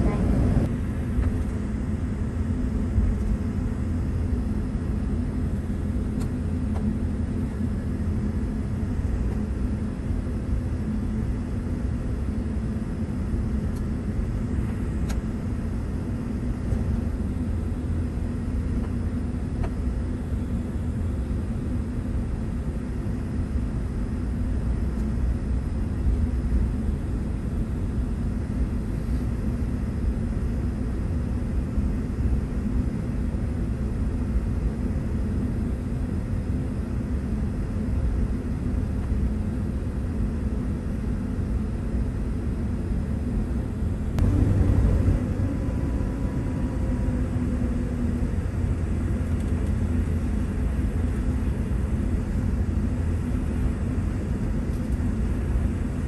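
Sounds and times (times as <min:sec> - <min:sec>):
jet airliner cabin rumble: 0:00.0 - 0:56.0.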